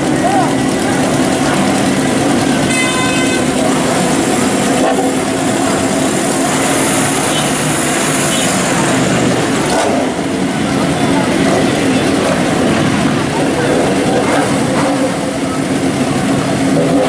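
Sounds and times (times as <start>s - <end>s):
crowd chatter: 0.0s - 17.0s
motorcycle engines running: 0.0s - 17.0s.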